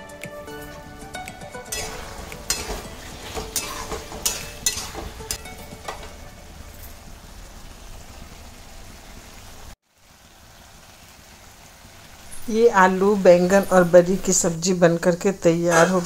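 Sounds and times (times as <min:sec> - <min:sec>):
curry sizzling and bubbling: 0:00.0 - 0:16.0.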